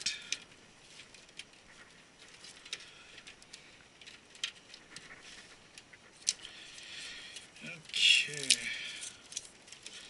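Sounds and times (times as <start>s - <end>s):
cables and small parts rustling: 0.0s - 10.0s.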